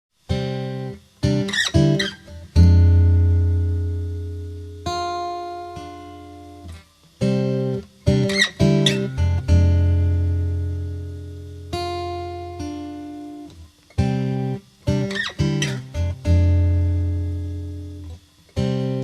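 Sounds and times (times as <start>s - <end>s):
acoustic guitar strumming chords: 0.3s - 19.0s.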